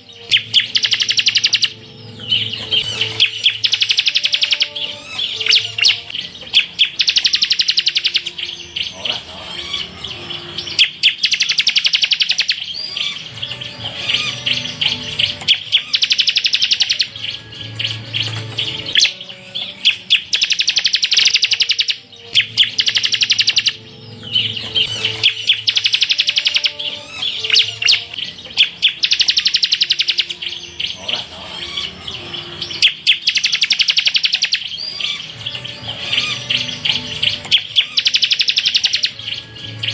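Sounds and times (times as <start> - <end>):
songbird chattering trills: 0.0 - 39.9.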